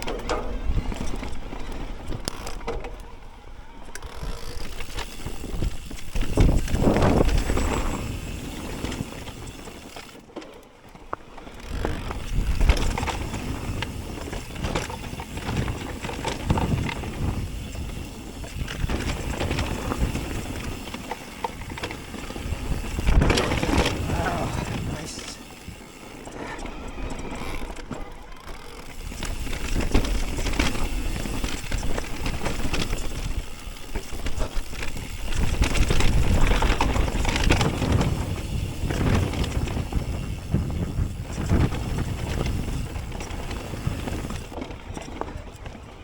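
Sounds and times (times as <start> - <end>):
bike rattling over bumps: 0.0 - 46.0
bike tyres rolling on dirt: 0.0 - 46.0.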